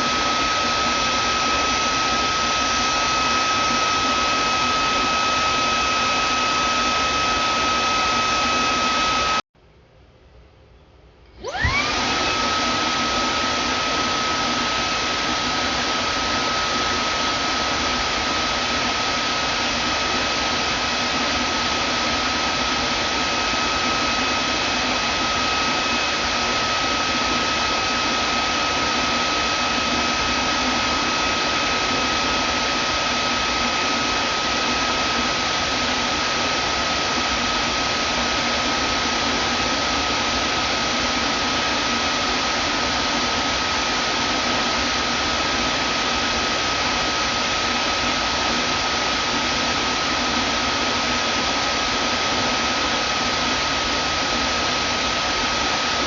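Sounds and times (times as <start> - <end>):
vacuum cleaner running: 0.0 - 9.4, 11.4 - 56.0.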